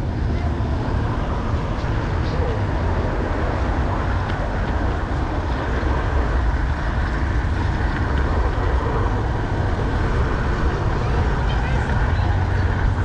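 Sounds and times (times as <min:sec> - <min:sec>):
model train wheels and motor rumble: 0:00.0 - 0:13.0.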